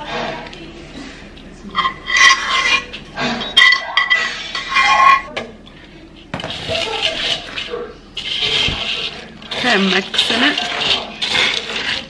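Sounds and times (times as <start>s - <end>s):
utensil scraping a pot: 1.7s - 12.0s.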